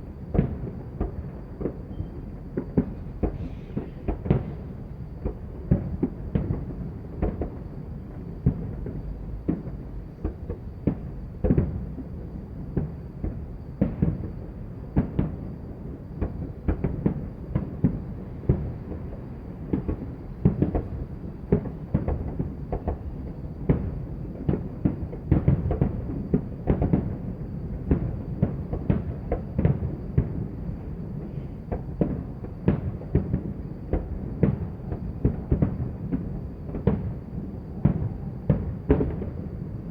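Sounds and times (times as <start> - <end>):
fireworks bangs and booms: 0.0 - 39.9.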